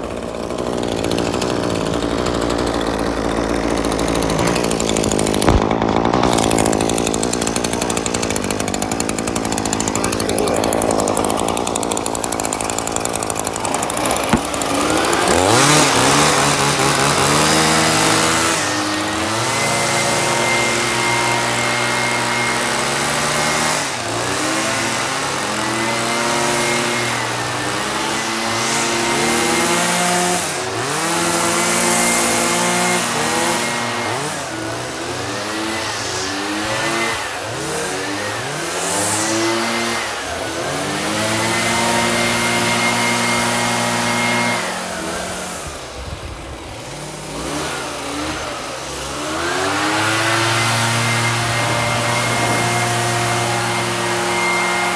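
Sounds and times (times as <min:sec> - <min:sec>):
small two-stroke engine revving: 0:00.0 - 0:54.9.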